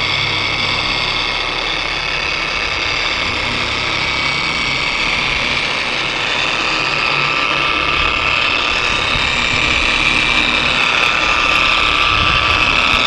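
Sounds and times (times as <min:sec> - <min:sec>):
polisher motor whine: 0:00.0 - 0:13.0.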